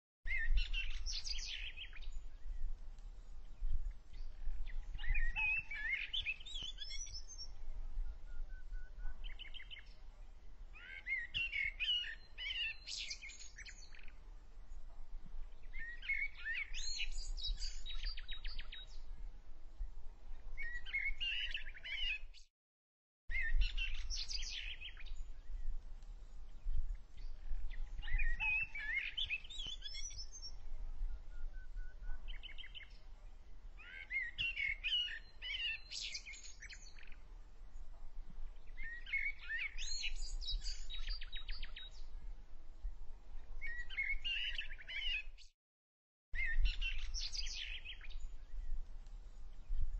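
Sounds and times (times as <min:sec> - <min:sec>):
songbirds chirping: 0:00.3 - 0:22.5, 0:23.3 - 0:45.5, 0:46.4 - 0:49.9.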